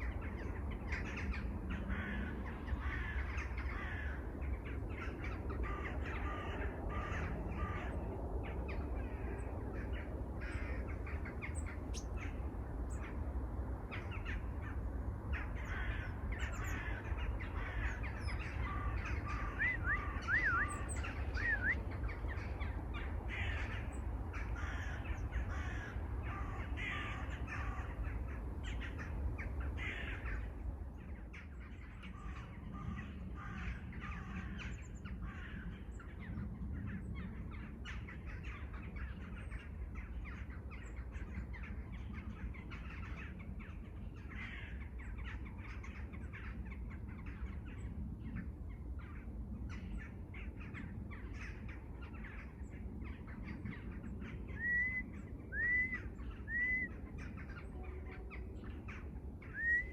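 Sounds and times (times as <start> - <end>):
crows cawing: 0.0 - 13.2, 13.9 - 36.2, 37.4 - 47.7, 49.1 - 59.9.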